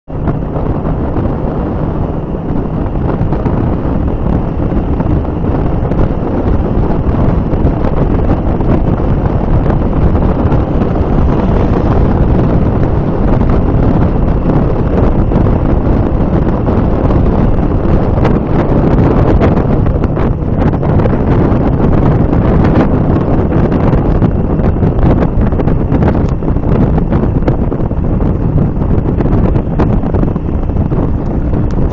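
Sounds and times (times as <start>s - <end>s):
motorcycle road noise: 0.0s - 31.9s
wind buffeting microphone: 0.1s - 31.9s.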